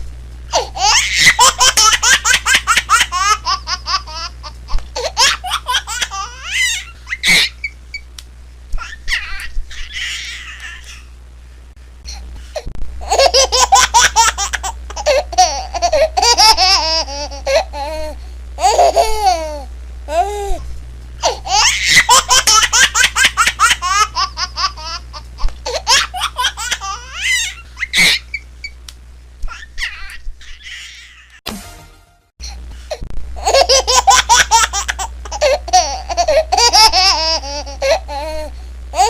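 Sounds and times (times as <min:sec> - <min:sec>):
steady low hum: 0:00.0 - 0:39.0
baby laughing: 0:00.5 - 0:07.8, 0:08.8 - 0:11.1, 0:13.0 - 0:20.6, 0:21.2 - 0:28.4, 0:29.5 - 0:31.4, 0:33.4 - 0:39.0.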